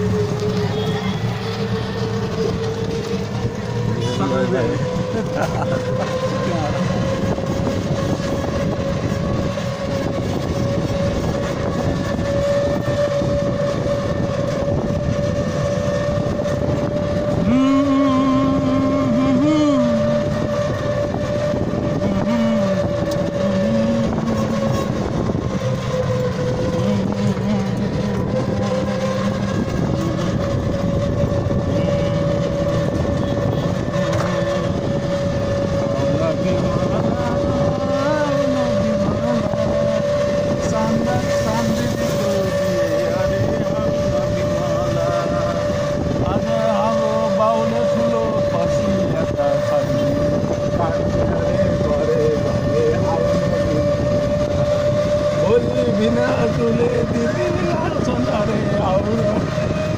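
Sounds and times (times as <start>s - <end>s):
rickshaw engine and road noise: 0.0s - 59.9s
wavering pitched tone: 0.0s - 59.9s.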